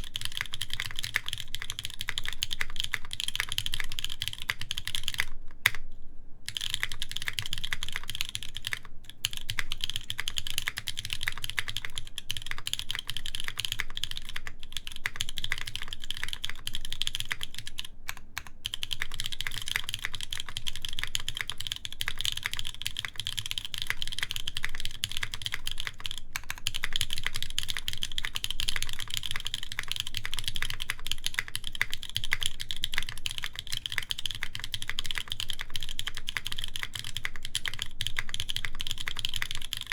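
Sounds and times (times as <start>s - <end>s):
fast mechanical keyboard typing: 0.0s - 5.8s, 6.5s - 39.9s.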